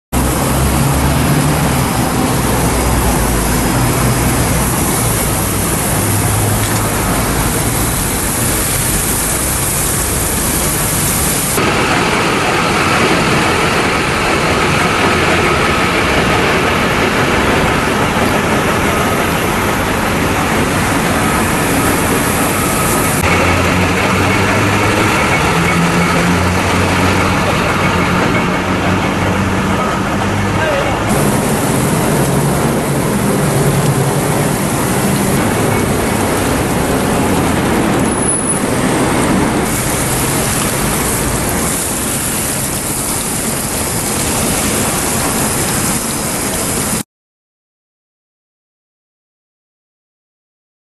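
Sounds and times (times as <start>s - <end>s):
loud hiss: 0.2s - 25.7s, 31.1s - 47.0s
heavy vehicle engine idling: 0.2s - 47.0s.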